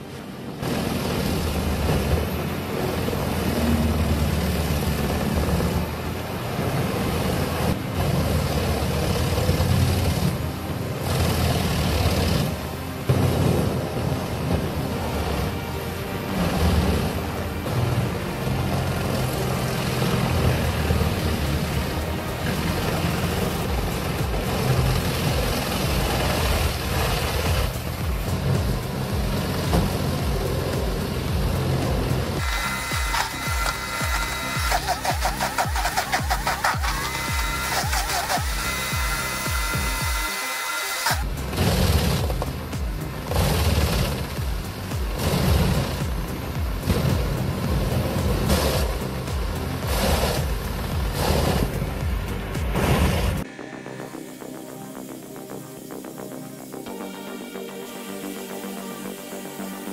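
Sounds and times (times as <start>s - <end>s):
grinder machine grinding logs: 0.0s - 53.4s
heavy engine running: 0.0s - 59.9s.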